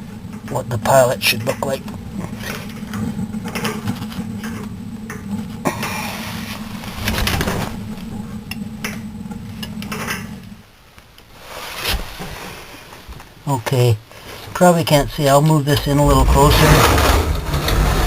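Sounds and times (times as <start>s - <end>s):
furnace burner rumbling: 0.0s - 12.6s, 14.2s - 18.0s.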